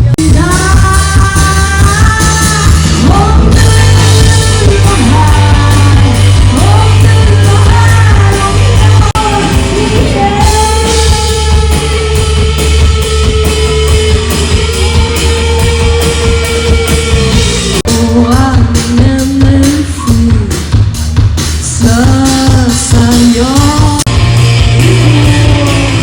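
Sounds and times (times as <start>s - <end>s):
drums: 0.0s - 26.0s
heavy bass: 0.0s - 26.0s
person singing: 0.0s - 26.0s.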